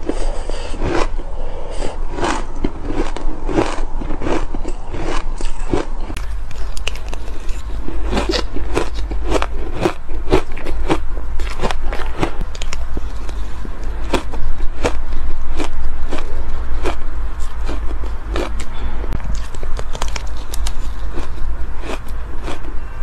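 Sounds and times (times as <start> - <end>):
chewing crunchy shaved ice: 0.0 - 23.0
steady low hum: 0.0 - 23.0.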